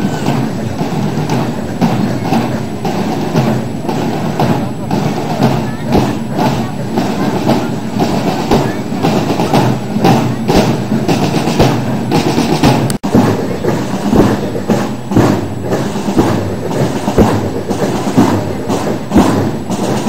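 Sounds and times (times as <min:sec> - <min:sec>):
parade drums marching rhythm: 0:00.0 - 0:20.0.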